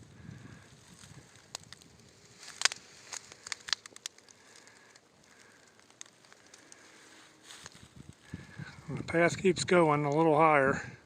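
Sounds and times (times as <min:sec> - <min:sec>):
dry leaves crackling underfoot: 0:00.0 - 0:10.3.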